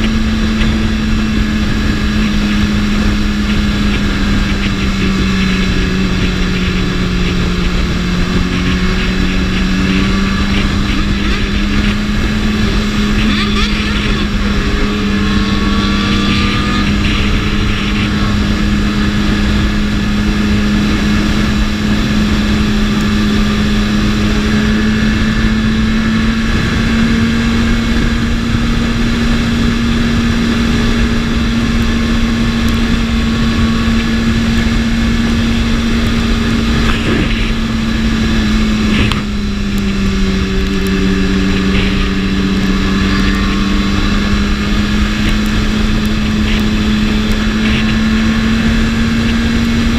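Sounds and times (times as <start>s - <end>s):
motorcycle engine cruising: 0.0s - 49.9s.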